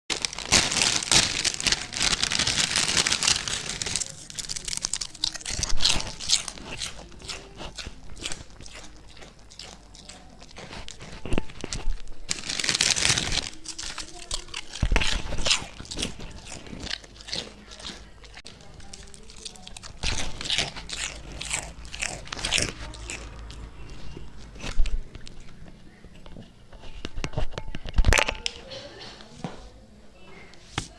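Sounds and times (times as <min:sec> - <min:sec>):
goat crunching potato chips: 0:00.1 - 0:28.2.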